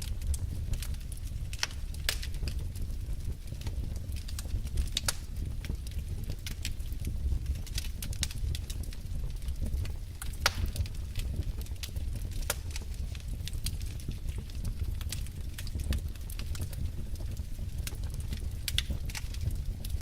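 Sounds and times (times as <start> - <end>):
logs crackling and popping: 0.0 - 20.0
low roar of flames: 0.0 - 20.0.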